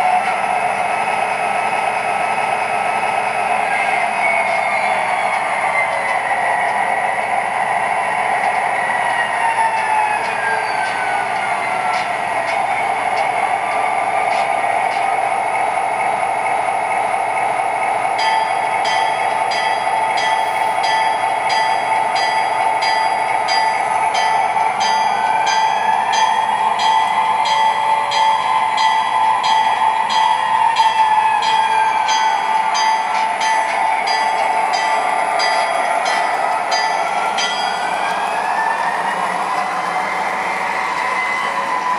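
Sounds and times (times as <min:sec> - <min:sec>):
clickety-clack of wheels on track: 0:00.0 - 0:41.9.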